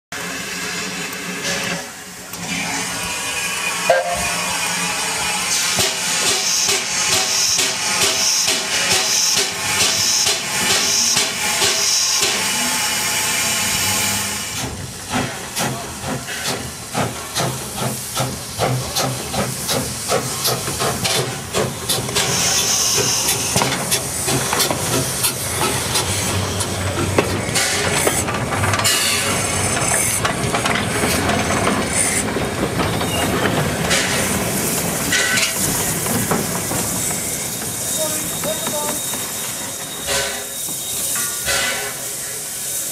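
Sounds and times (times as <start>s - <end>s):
steam hissing: 0.2s - 42.9s
steam locomotive chuffing: 0.2s - 42.9s.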